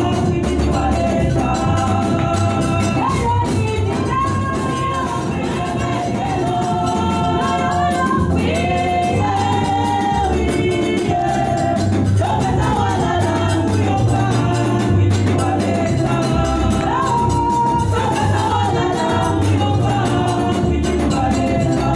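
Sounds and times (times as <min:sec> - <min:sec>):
deep bass line: 0:00.0 - 0:21.9
fast percussion beat: 0:00.0 - 0:21.9
women singing praise song: 0:00.0 - 0:21.9.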